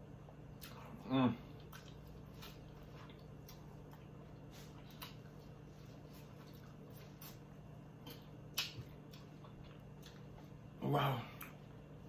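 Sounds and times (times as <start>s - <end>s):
low steady hum: 0.0s - 12.0s
wet chewing: 0.3s - 10.6s.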